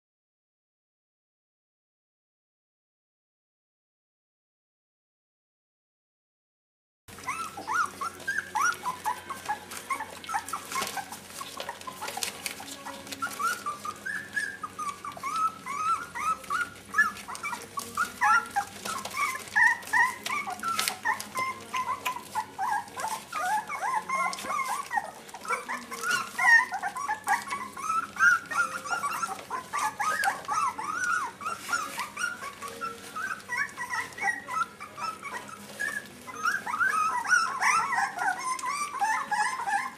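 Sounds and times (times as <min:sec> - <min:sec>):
puppies whimpering and squeaking: 0:07.1 - 0:39.9.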